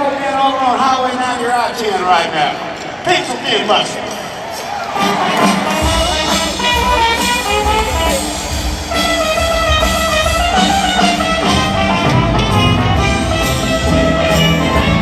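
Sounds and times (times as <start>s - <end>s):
live rock band with horns: 2.5s - 15.0s.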